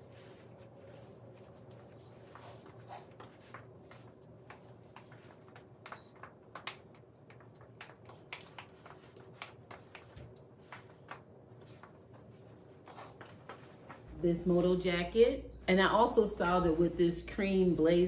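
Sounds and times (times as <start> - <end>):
clothes rustling: 0.0 - 14.6
low room hum: 0.0 - 18.0.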